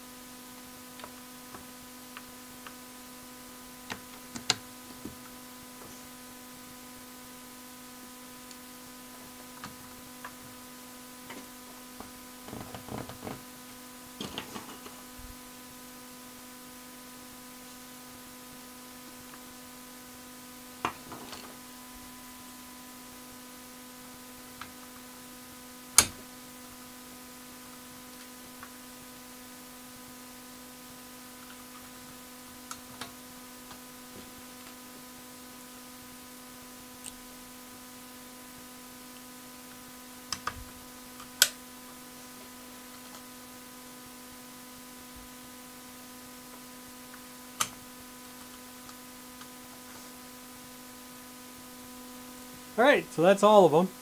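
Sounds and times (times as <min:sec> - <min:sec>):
electrical hum: 0:00.0 - 0:54.0.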